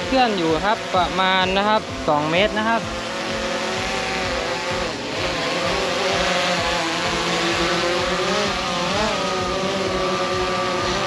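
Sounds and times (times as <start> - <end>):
drone motors buzzing whine: 0.0 - 11.0
rush of propeller wash: 0.0 - 11.0.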